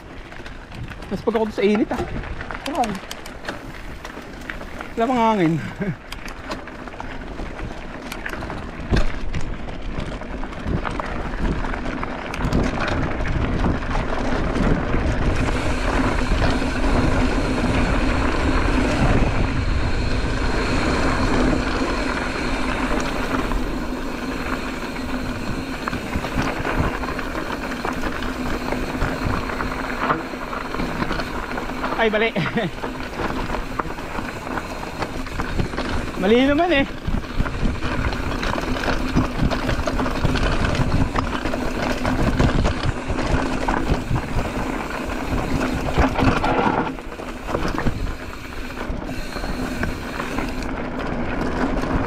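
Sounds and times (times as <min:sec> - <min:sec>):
bike clicks and rattles: 0:00.0 - 0:52.0
bike tyres rolling on dirt: 0:00.0 - 0:52.0.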